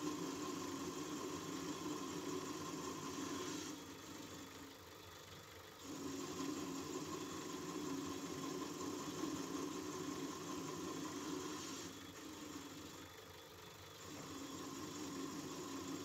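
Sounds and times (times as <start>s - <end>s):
lathe running: 0.0s - 16.0s.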